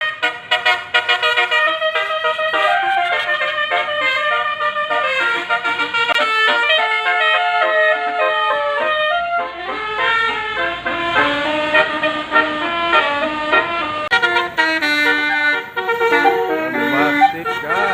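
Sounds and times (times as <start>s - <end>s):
bus horn playing a melody: 0.0s - 17.9s.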